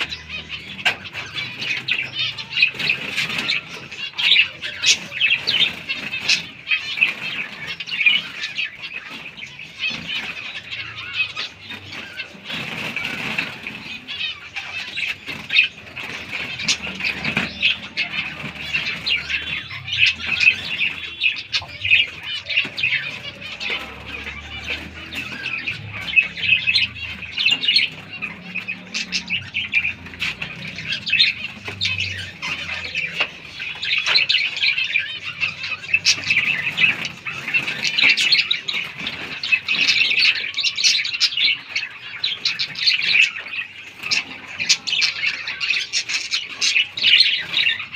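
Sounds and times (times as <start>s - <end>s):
finches chirping: 0.0s - 47.9s.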